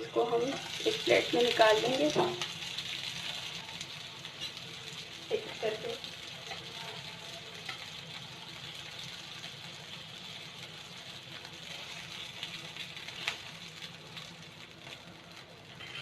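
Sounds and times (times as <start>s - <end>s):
oil sizzling in a frying pan: 0.0s - 16.0s.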